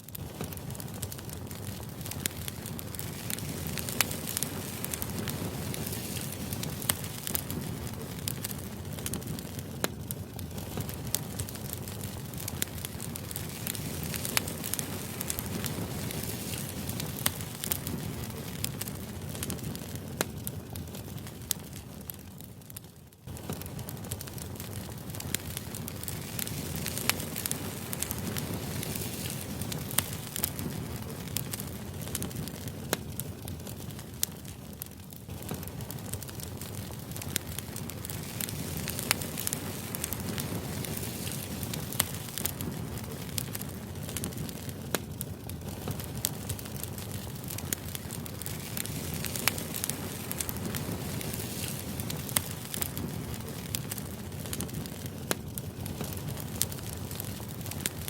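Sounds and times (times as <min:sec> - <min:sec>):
fire crackling and popping: 0:00.0 - 0:58.0
fire low rumble: 0:00.0 - 0:58.0.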